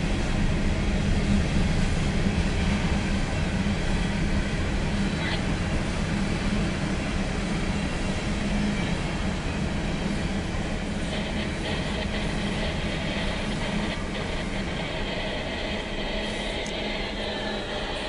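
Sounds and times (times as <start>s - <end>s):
train cars rumbling past: 0.0s - 18.0s.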